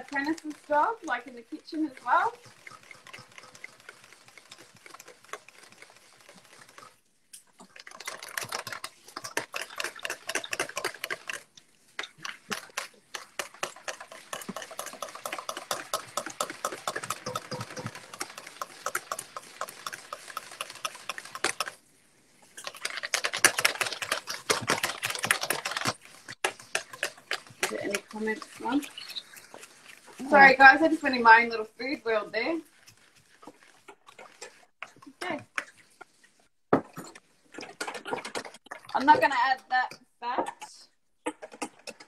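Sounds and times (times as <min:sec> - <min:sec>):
whisk beating in steel bowl: 0:00.0 - 0:21.8, 0:22.5 - 0:36.2.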